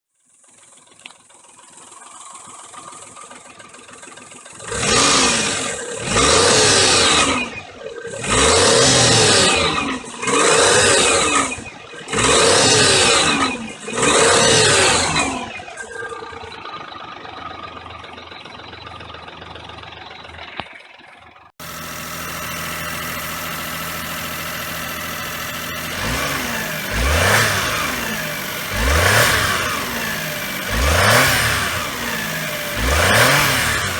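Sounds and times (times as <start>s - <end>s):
car engine idling and revving: 0.2s - 33.9s.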